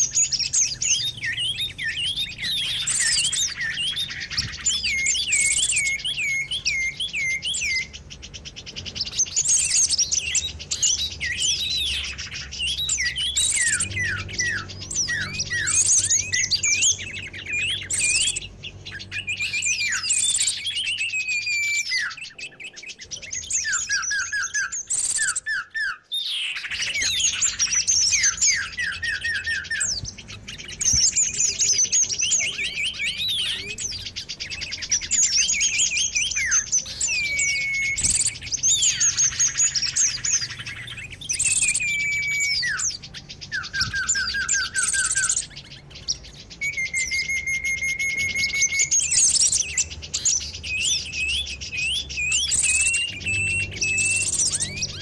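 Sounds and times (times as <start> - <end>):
long held bird whistle: 0.0 - 55.0
songbirds chirping and trilling: 0.0 - 55.0.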